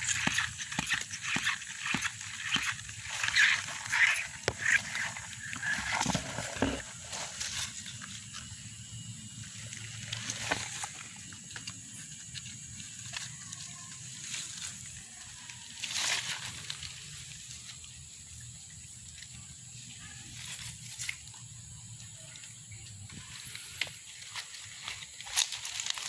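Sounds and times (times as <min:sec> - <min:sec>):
rustling wet leaf litter: 0:00.0 - 0:22.4, 0:23.2 - 0:26.0
high-pitched background hiss: 0:04.5 - 0:25.9.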